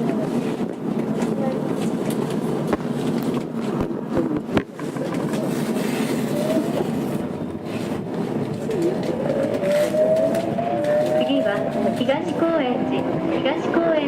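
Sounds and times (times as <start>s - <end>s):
subway wheel and rail noise: 0.0s - 14.0s.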